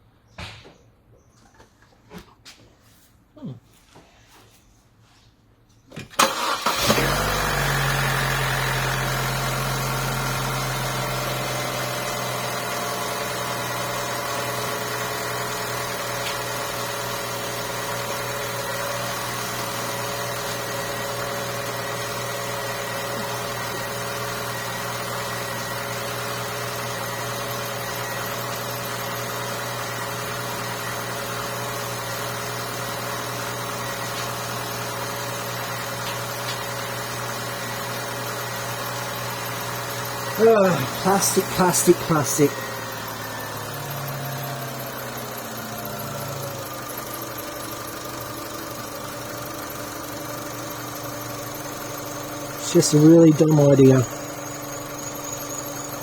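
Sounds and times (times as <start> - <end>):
car engine starting and idling: 6.0 - 56.0.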